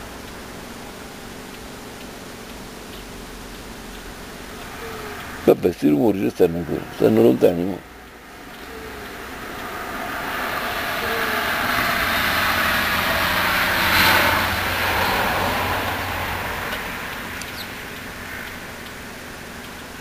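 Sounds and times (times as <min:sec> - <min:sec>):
distant aircraft passing over: 0:00.0 - 0:20.0.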